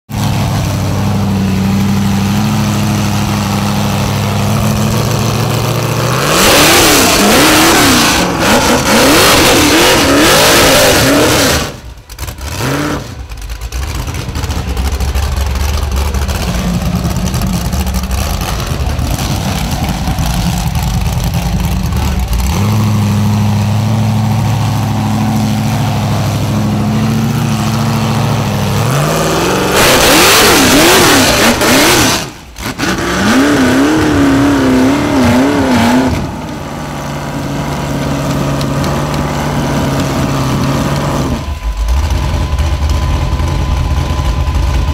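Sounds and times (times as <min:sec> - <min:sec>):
engine idling and revving hard: 0:00.0 - 0:44.9.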